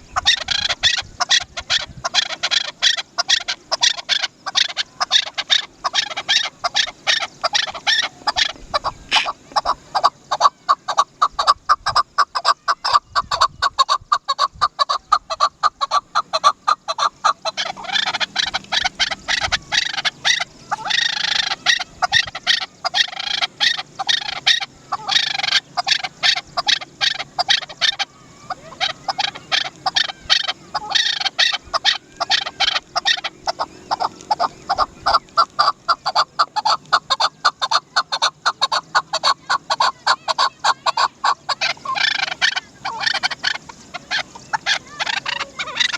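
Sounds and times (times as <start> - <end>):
partridge rapid chuck calls: 0.0 - 45.9.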